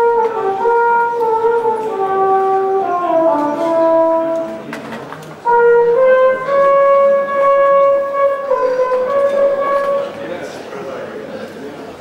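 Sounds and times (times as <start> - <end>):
big band brass chords: 0.0 - 4.8, 5.4 - 10.3.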